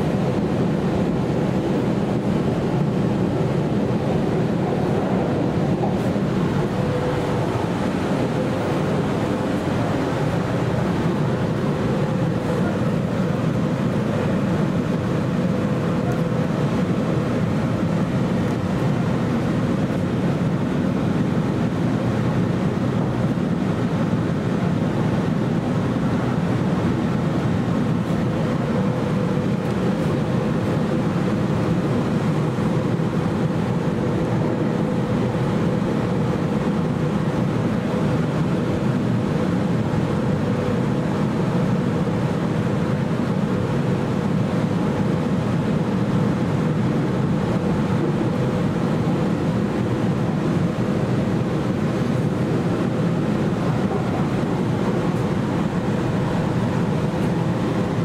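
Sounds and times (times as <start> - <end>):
faint steady whine: 0.0 - 58.0
train interior rumble: 0.0 - 58.0.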